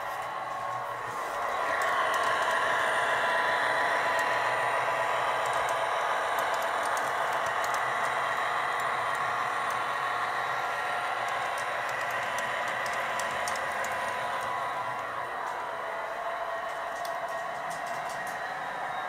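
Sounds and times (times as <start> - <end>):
model train running: 0.0 - 19.0
wheels clicking over rails: 0.0 - 19.0.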